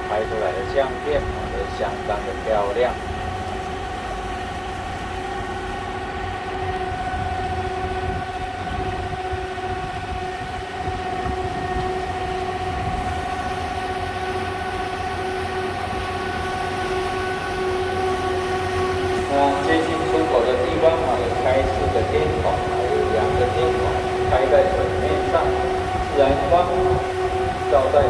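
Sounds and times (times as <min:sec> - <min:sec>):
electric boat motor whining: 0:00.0 - 0:28.0.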